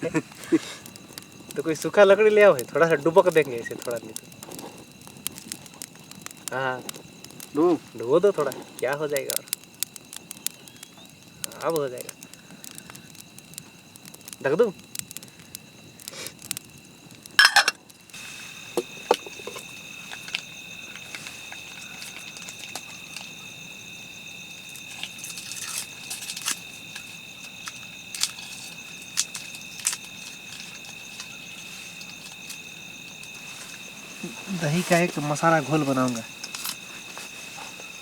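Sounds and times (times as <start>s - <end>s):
campfire crackling and popping: 0.0s - 38.0s
crickets chirping: 0.0s - 38.0s.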